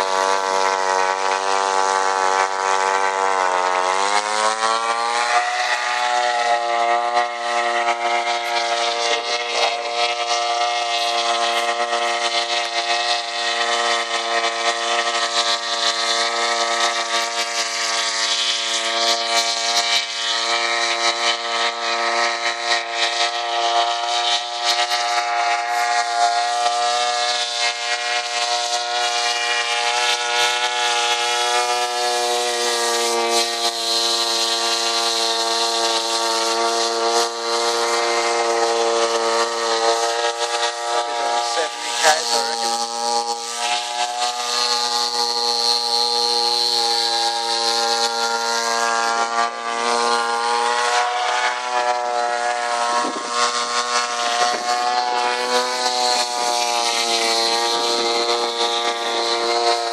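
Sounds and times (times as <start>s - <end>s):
two-stroke engine at high revs: 0.0s - 59.9s.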